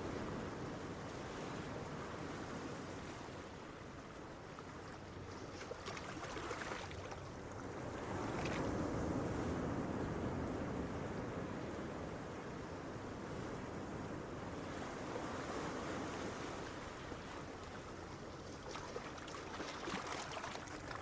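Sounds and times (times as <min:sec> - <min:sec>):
ocean waves on beach: 0:00.0 - 0:21.0.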